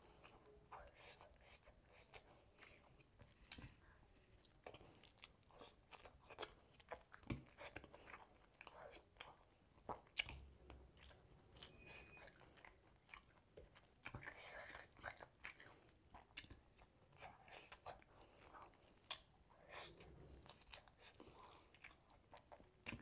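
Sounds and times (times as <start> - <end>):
person chewing food: 0.1 - 23.0.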